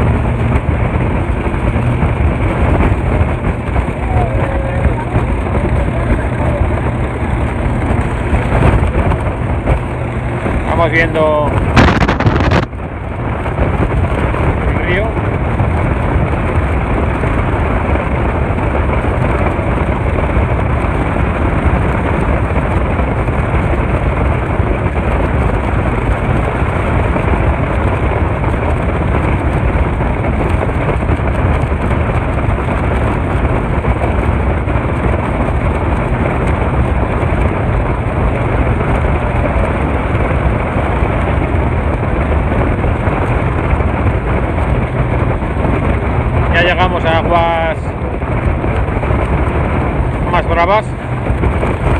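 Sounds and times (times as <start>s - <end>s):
speedboat engines running: 0.0s - 51.9s
wind buffeting microphone: 0.0s - 51.9s.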